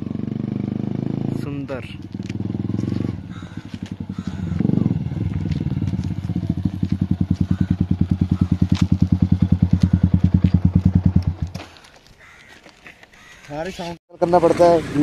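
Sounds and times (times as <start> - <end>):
motorcycle engine running: 0.0 - 11.6, 14.2 - 15.0.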